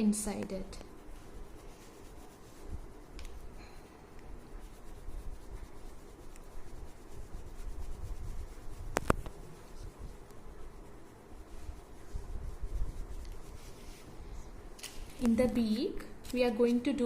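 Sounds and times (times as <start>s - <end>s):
crayon rubbing on paper: 0.0s - 14.4s.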